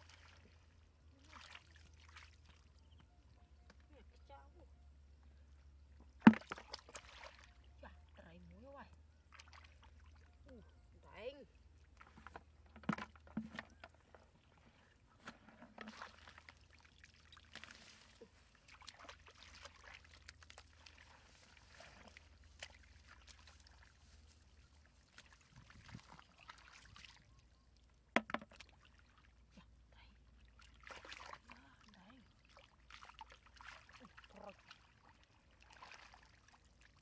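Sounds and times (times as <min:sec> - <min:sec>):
muddy water sloshing: 0:00.0 - 0:04.4, 0:05.5 - 0:29.6, 0:30.2 - 0:37.0.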